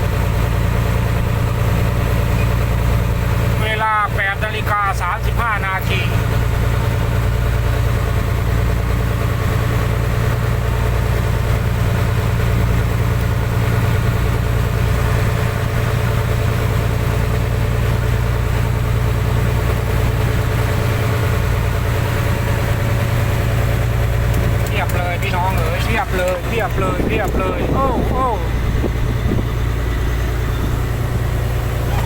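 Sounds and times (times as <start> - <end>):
boat engine low throb: 0.0 - 32.0.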